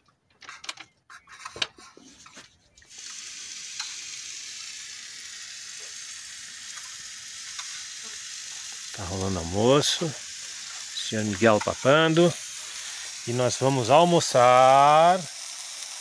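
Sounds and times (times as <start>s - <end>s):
steady hiss: 2.9s - 16.0s.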